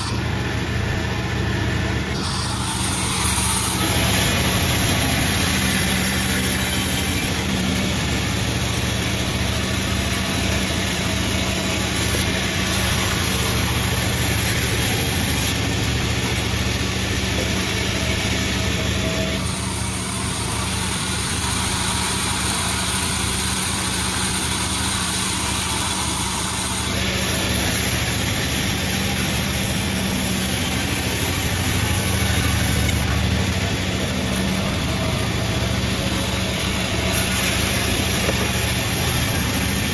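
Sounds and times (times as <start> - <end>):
sawmill machine humming: 0.0 - 39.9.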